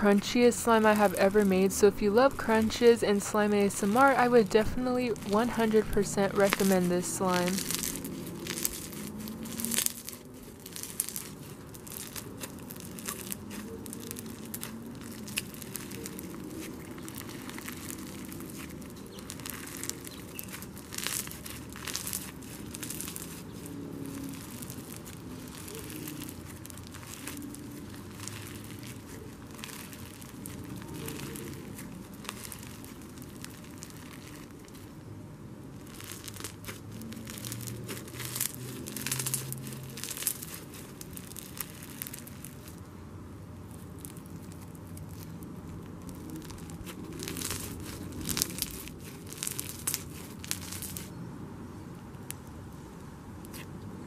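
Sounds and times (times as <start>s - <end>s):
bead slime crackling and popping: 0.3s - 42.9s, 43.6s - 51.2s, 52.0s - 52.8s, 53.4s - 53.7s.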